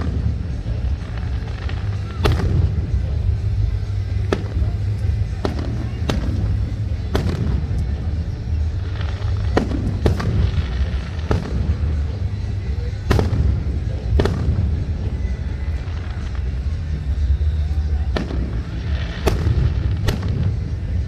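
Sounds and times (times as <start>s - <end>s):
fireworks bangs: 0.0s - 21.0s
low rumble: 0.0s - 21.0s.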